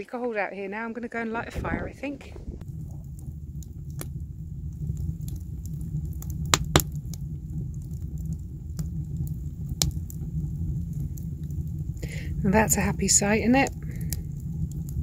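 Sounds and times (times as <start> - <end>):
fire flames rumbling: 0.5 - 15.0
fire crackling and popping: 1.1 - 15.0.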